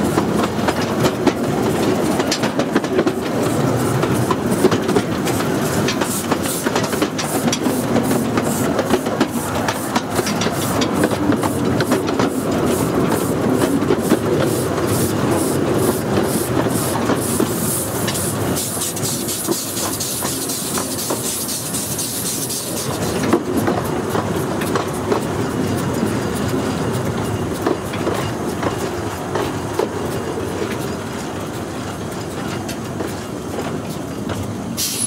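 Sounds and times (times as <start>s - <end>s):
steam locomotive regular beat: 0.0s - 35.0s
train wheels clattering on track: 0.0s - 35.0s.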